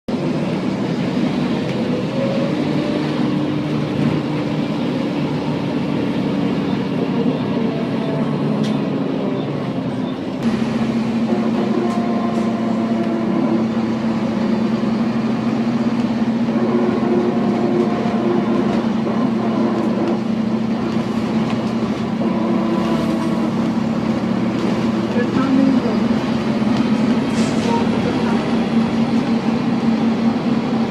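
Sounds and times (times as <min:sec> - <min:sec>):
bus engine running: 0:00.1 - 0:30.9.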